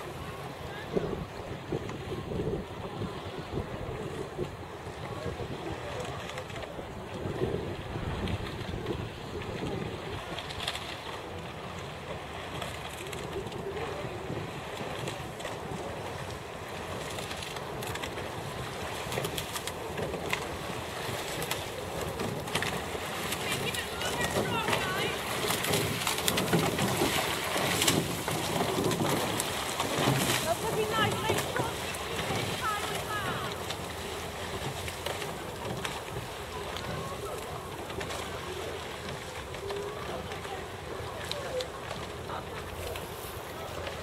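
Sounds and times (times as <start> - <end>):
wind buffeting microphone: 0.0 - 10.6, 13.2 - 44.0.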